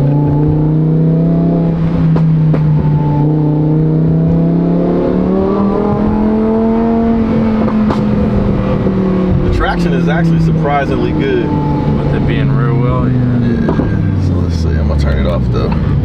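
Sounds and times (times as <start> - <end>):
exhaust crackles: 0.0 - 16.0
sports car engine: 0.0 - 16.0.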